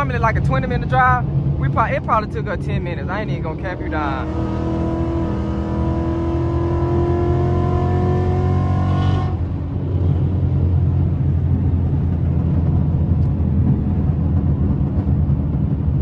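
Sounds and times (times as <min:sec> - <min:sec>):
car engine accelerating: 0:00.0 - 0:16.0
deep engine rumble: 0:00.0 - 0:16.0.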